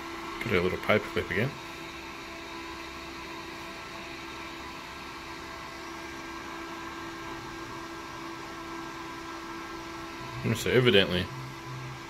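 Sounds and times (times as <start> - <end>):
server cooling fan running: 0.0 - 12.0.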